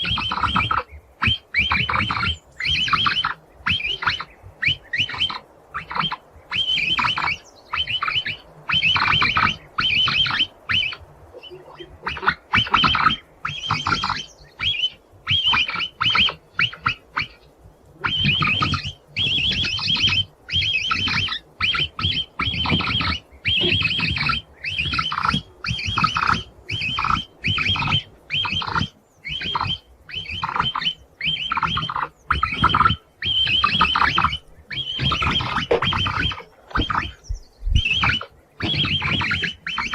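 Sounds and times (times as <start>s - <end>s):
capybara squeaking: 0.0s - 39.9s.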